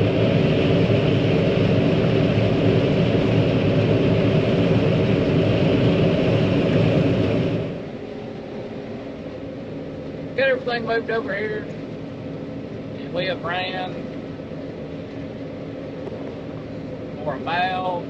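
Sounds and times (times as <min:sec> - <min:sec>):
farm machinery engine drone: 0:00.0 - 0:18.0.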